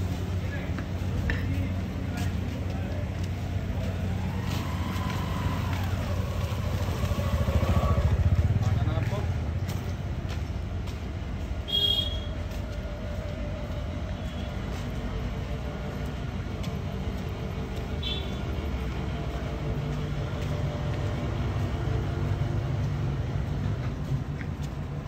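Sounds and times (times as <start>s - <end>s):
low engine rumble: 0.0s - 25.0s.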